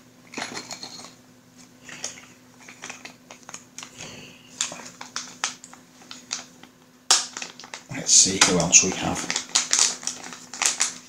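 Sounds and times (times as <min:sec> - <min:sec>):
plastic bags crinkling: 0:01.8 - 0:11.0.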